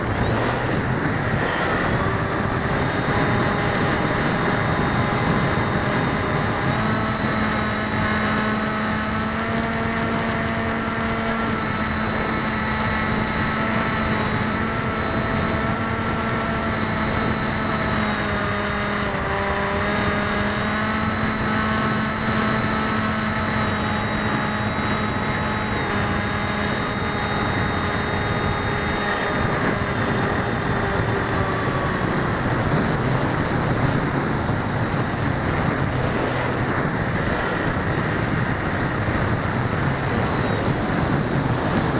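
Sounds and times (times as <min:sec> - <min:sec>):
electric motors and propellers whining: 0:00.0 - 0:41.9
gusty wind noise: 0:00.0 - 0:41.9.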